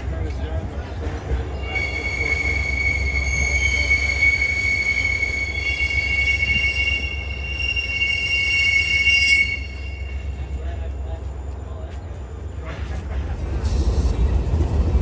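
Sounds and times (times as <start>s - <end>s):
train wheels squealing on rails: 0.7s - 14.8s.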